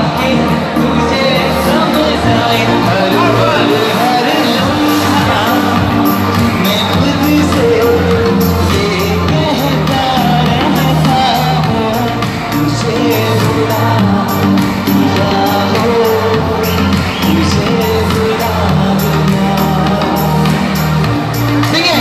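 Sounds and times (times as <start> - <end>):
live music with vocals: 0.0 - 22.0.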